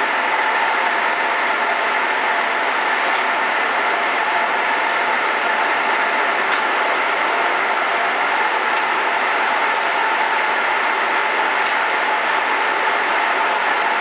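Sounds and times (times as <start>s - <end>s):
weaving looms whirring: 0.0s - 14.0s.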